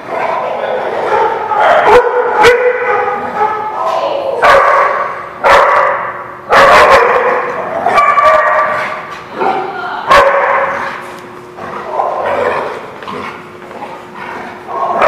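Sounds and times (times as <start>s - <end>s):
dogs barking in play: 0.0s - 15.0s.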